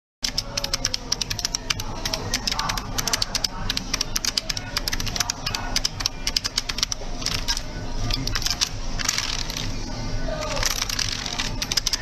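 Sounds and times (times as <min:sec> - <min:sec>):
computer keyboard typing: 0:00.2 - 0:09.7, 0:10.4 - 0:12.0.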